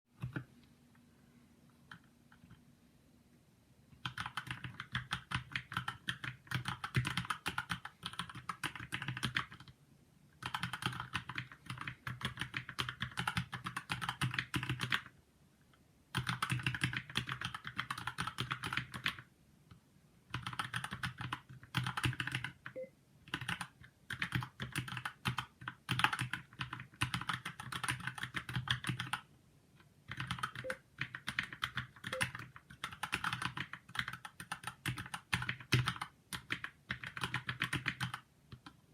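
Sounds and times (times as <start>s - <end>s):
mechanical keyboard typing: 4.0s - 9.7s, 10.4s - 15.1s, 16.1s - 19.3s, 20.3s - 29.2s, 30.1s - 38.8s.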